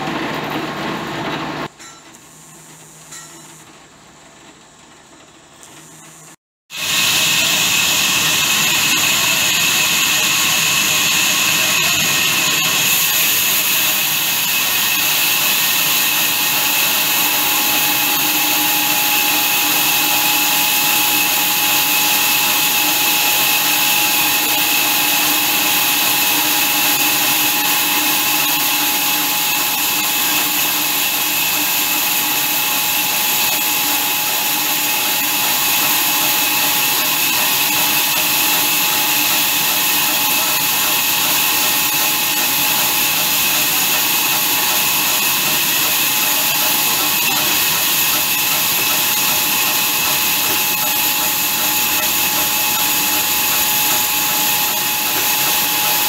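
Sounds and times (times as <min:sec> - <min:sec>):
band saw whining through log: 0:06.7 - 0:56.0.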